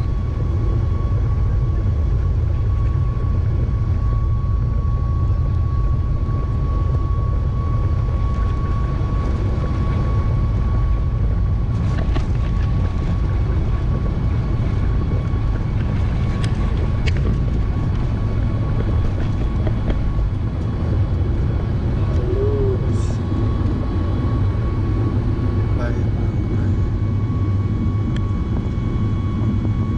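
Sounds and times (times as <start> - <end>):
jet engine cabin rumble: 0.0 - 29.9
steady whine: 0.0 - 29.9.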